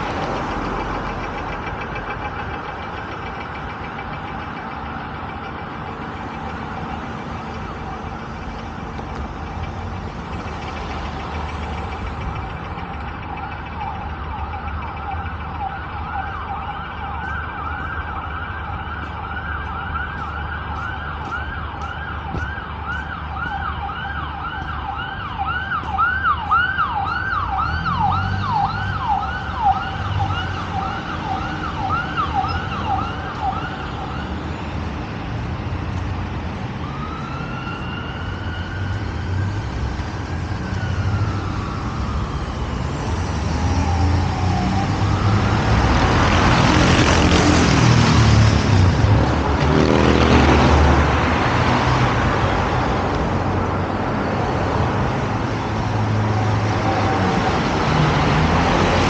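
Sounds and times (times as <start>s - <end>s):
emergency siren yelping: 0.0s - 34.6s, 36.8s - 59.0s
road traffic rumble: 0.0s - 59.0s.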